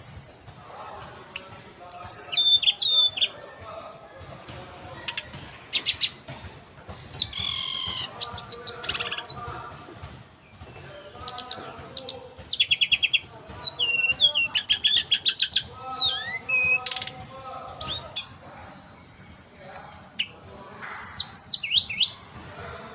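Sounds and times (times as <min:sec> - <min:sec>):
songbird singing: 0:00.0 - 0:22.9.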